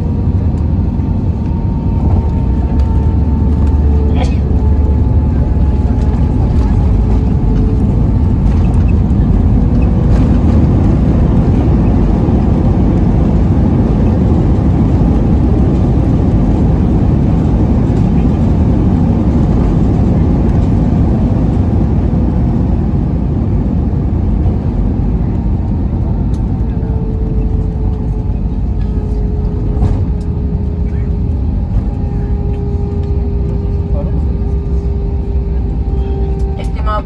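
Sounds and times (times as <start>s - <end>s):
airplane cabin rumble: 0.0s - 37.0s.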